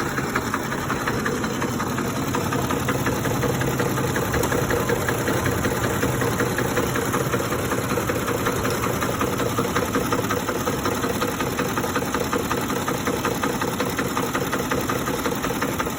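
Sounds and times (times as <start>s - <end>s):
truck engine idling with rattling knock: 0.0s - 15.9s.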